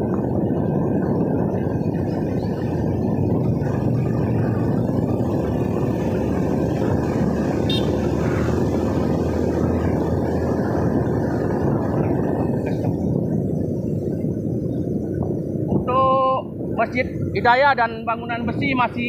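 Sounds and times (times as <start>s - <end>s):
motorcycle engine running: 0.0s - 17.5s
wind buffeting microphone: 0.0s - 19.0s.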